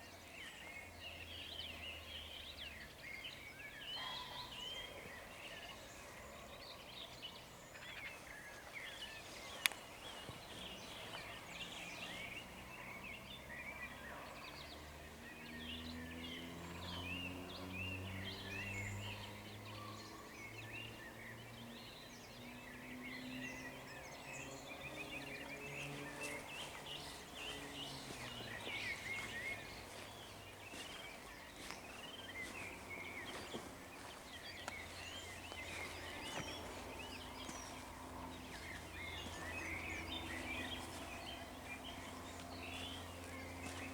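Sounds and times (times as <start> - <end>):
songbirds chirping and singing: 0.0 - 43.9.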